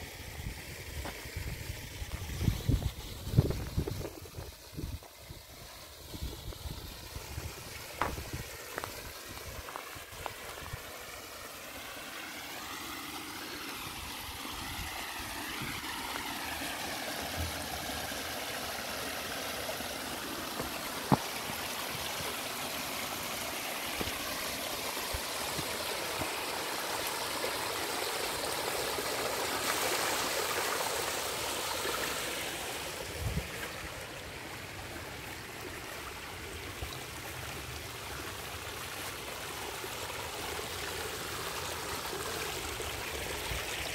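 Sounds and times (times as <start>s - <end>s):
water trickling over rocks: 0.0s - 43.9s.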